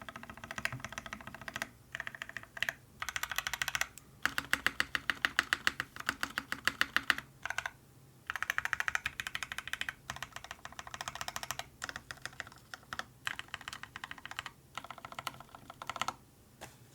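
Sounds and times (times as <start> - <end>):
fast typing on mechanical keyboard: 0.0 - 16.2.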